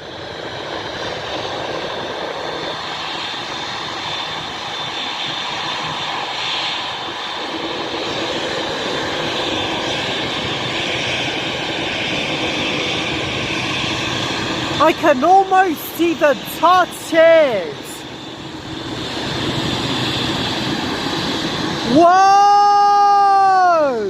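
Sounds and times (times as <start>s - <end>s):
jet engines rushing with whine: 0.0s - 24.0s.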